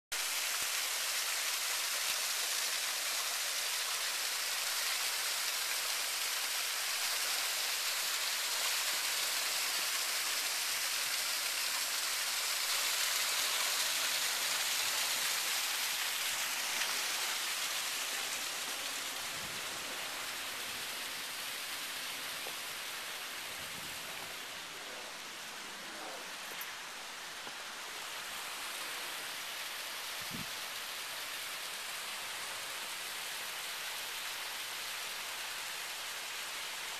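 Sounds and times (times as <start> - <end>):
waterfall splashing over rocks: 0.1 - 36.9.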